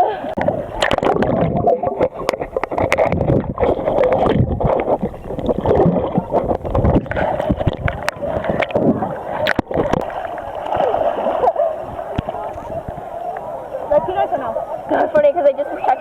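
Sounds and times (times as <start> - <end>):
water sloshing and gurgling: 0.0 - 16.0
small splashes: 0.4 - 14.0.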